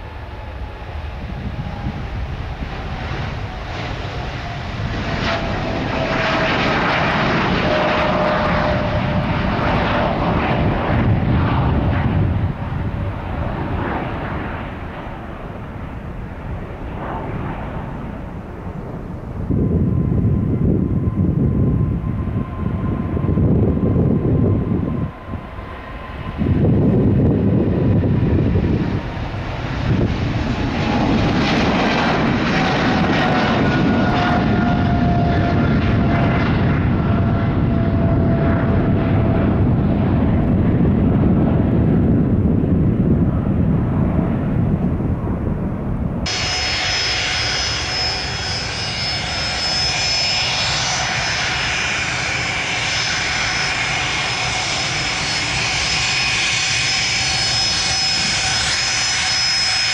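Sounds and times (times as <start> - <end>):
high-pitched turbine whine: 0.0 - 59.9
jet engines rumbling: 0.0 - 59.9.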